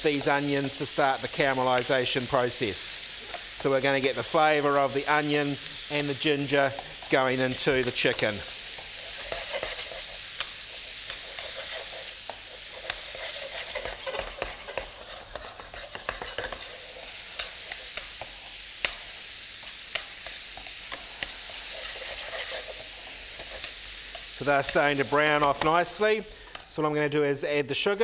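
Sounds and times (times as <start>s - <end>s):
onions sizzling in oil: 0.0s - 26.8s
tongs scraping pan: 3.2s - 25.8s.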